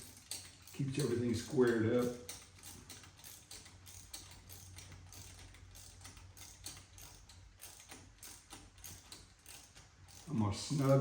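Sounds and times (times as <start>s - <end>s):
ratchet wrench clicking: 0.0s - 11.0s.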